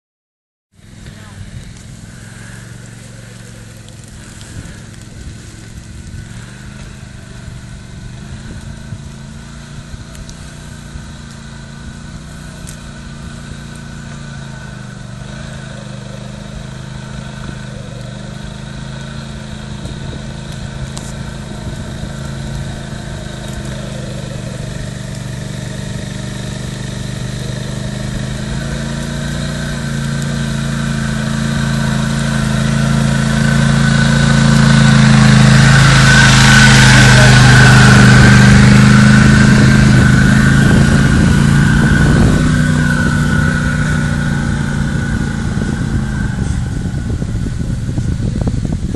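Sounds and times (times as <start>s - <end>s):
quad bike engines running: 0.8s - 48.9s.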